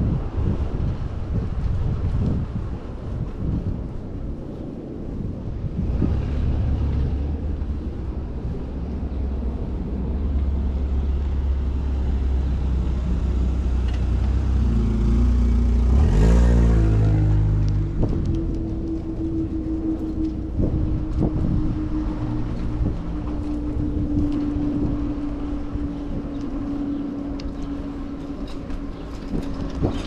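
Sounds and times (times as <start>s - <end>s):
road traffic rumble: 0.0s - 30.0s
motor vehicle engine rising: 5.6s - 30.0s.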